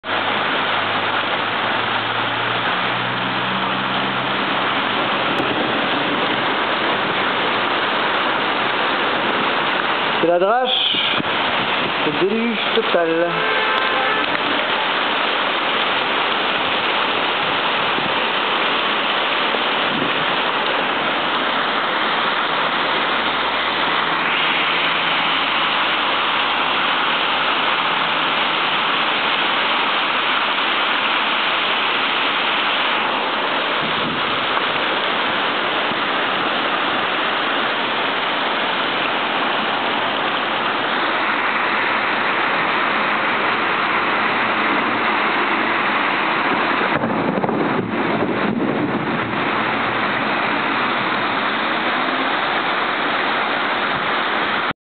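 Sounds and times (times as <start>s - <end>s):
cars passing through water: 0.0s - 54.7s
heavy rain on pavement: 0.0s - 54.8s.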